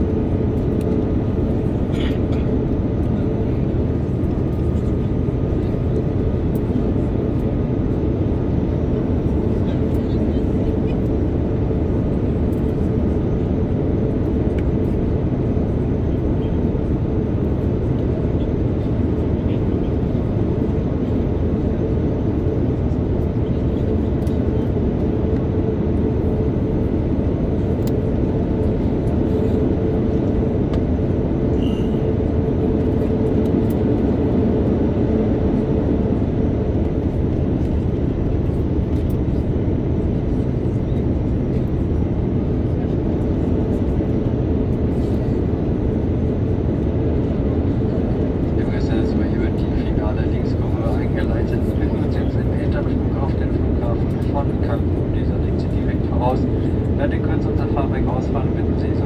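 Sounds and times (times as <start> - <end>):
airflow rushing in aircraft cabin: 0.0 - 59.0
jet engines: 0.0 - 59.0
steady hum: 0.0 - 59.0.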